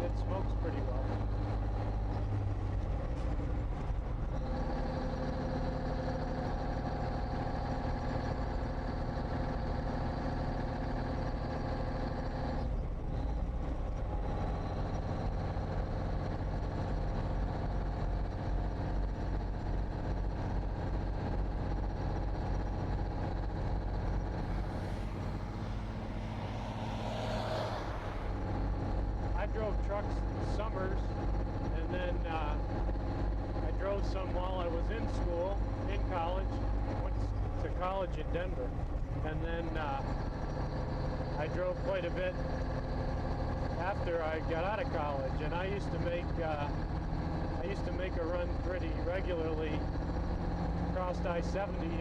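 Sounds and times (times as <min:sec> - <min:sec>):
diesel truck engine under load: 0:00.0 - 0:52.0.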